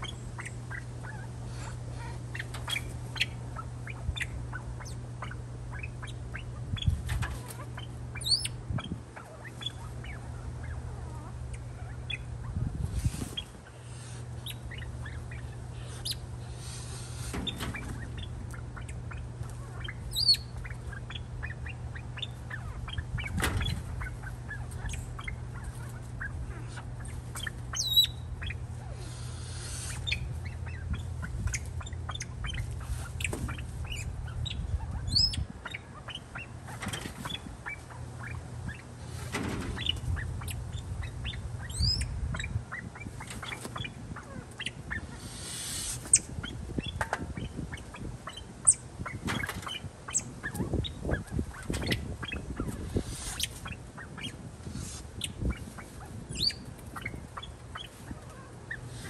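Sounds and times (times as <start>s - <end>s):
pheasants clucking and chirping: 0.0s - 59.0s.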